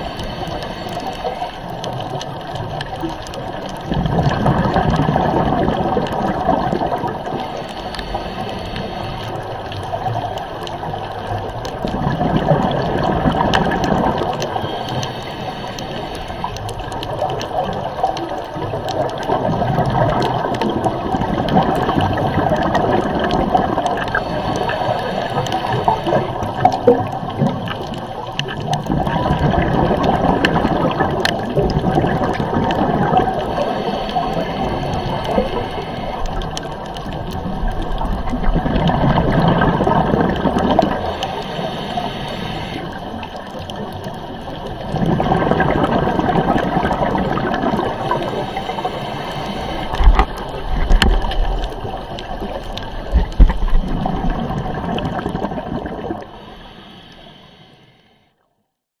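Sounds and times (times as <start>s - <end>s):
underwater rushing and bubbling: 0.0s - 58.3s.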